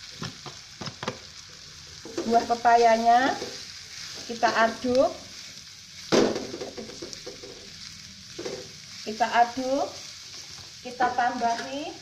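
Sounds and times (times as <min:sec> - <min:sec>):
food sizzling in hot oil: 0:00.0 - 0:12.0
wooden spatula scraping a wok: 0:02.0 - 0:11.9.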